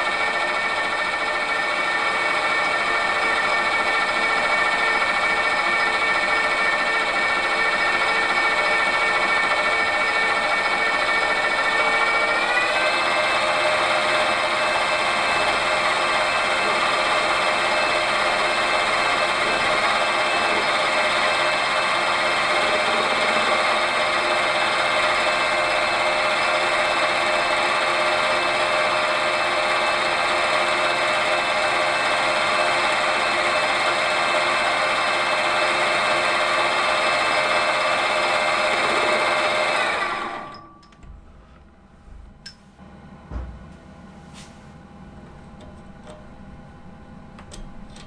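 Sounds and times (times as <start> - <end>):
metal lathe running: 0.0 - 41.1.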